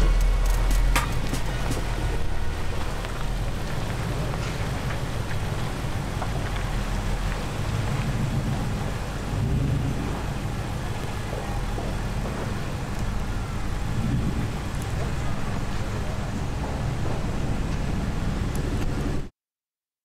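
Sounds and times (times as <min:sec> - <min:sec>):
engine rumbling at low revs: 0:00.0 - 0:19.3.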